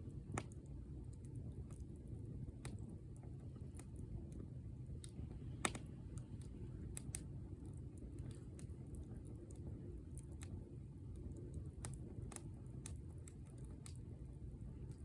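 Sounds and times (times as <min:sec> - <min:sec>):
bonfire crackling and popping: 0:00.0 - 0:15.0
low fire rumble: 0:00.0 - 0:15.0.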